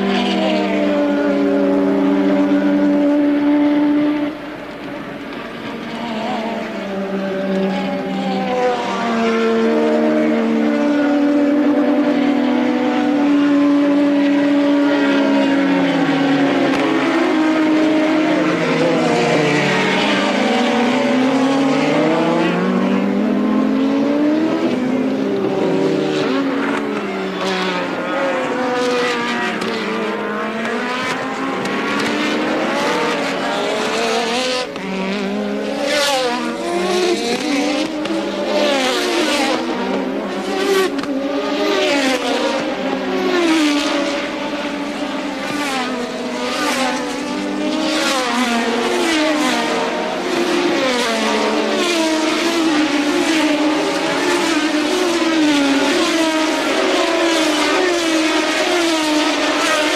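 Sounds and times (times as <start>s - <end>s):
race car engines racing: 0.0s - 59.9s.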